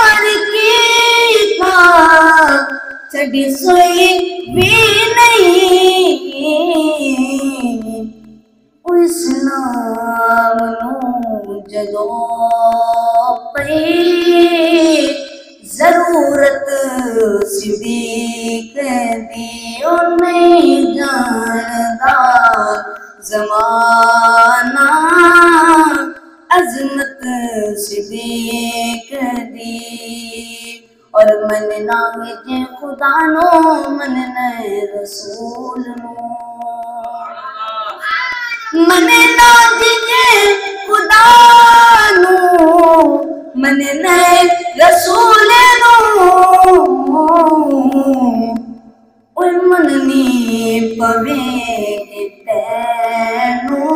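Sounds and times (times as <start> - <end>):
boy singing into microphone: 0.0 - 53.9.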